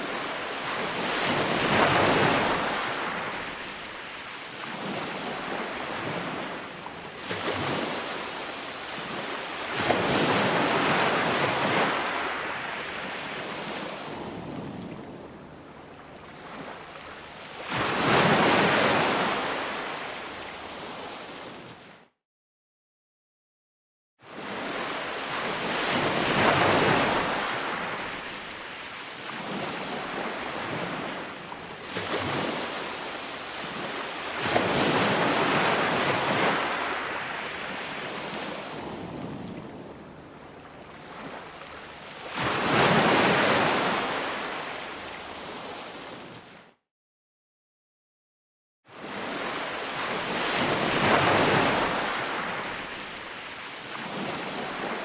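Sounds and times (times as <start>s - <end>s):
ocean waves breaking: 0.0s - 21.9s, 24.3s - 46.6s, 49.0s - 55.0s.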